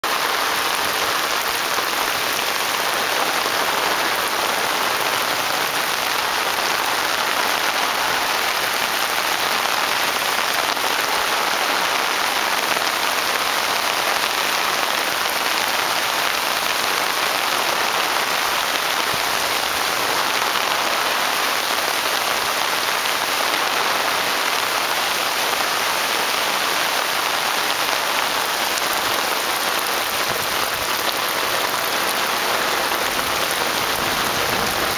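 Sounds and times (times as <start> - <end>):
heavy rain on water and leaves: 0.0 - 34.9.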